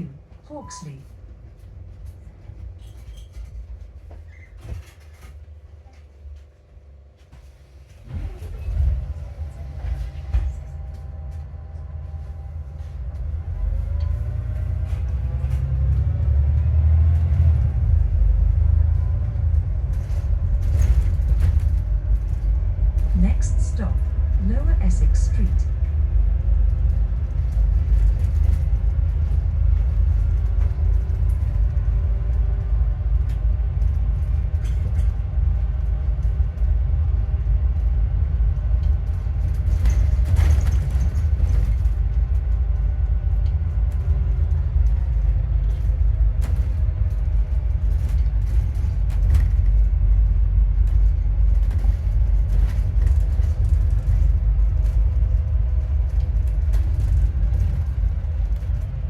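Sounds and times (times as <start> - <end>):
alternator whine: 0.0 - 2.5, 7.2 - 59.0
bus engine and road rumble: 0.0 - 59.0.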